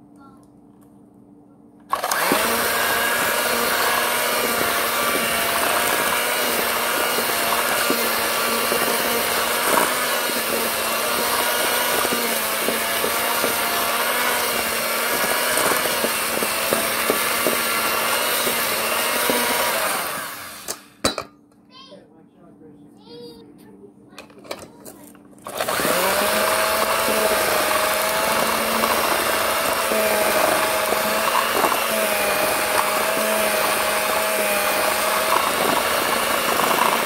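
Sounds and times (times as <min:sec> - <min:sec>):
electric hand mixer running: 0:01.9 - 0:21.0, 0:25.4 - 0:37.0.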